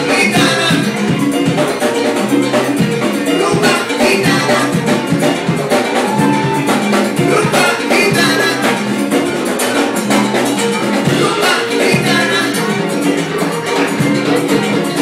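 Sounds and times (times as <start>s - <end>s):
dense percussion: 0.0s - 15.0s
samba band playing: 0.0s - 15.0s.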